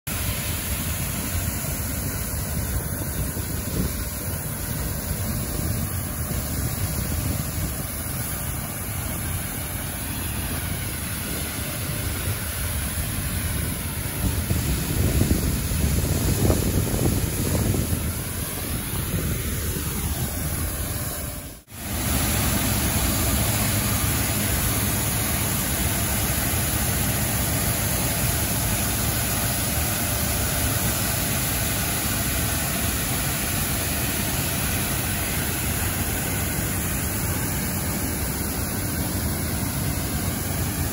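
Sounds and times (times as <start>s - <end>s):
street sweeper engine running: 0.1s - 40.9s
rotating brooms scrubbing asphalt: 0.2s - 40.9s.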